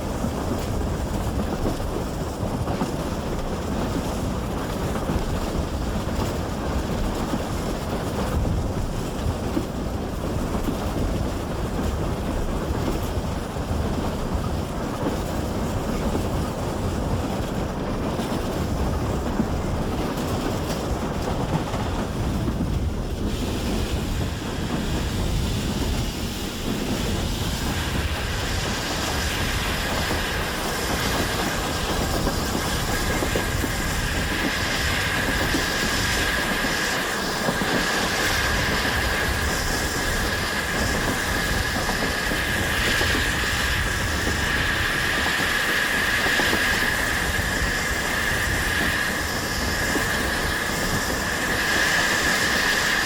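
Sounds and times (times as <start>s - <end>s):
train wheels rumbling on track: 0.0s - 53.0s.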